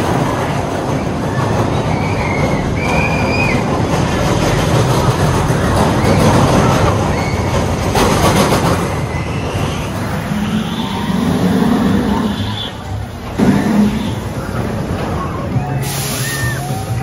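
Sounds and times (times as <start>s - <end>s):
roller coaster rumbling on track: 0.0s - 17.0s.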